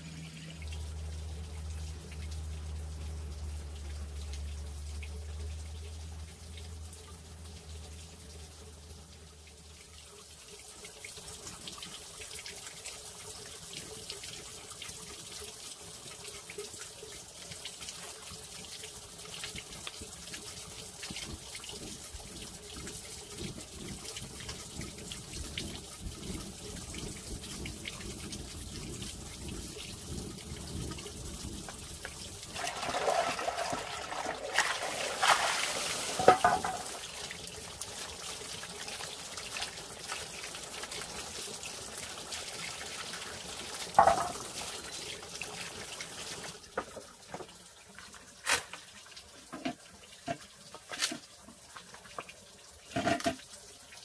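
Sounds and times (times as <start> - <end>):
water running and splashing: 0.0 - 54.0.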